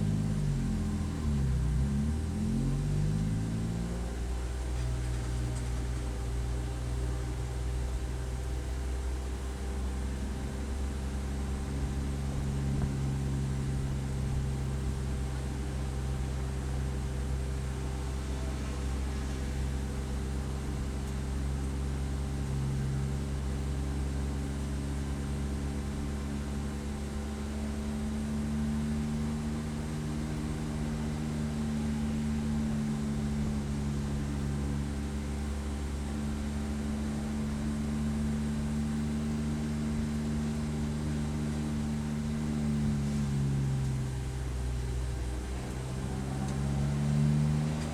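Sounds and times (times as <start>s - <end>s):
race car engine running: 0.0s - 47.9s.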